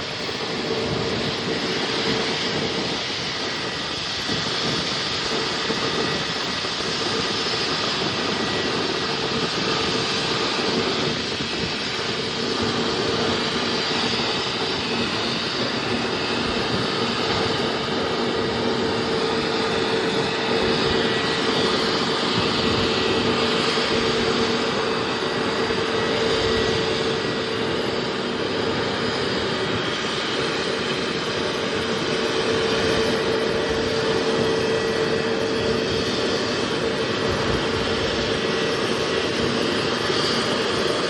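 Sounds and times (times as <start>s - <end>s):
airliner engines droning: 0.0s - 41.0s.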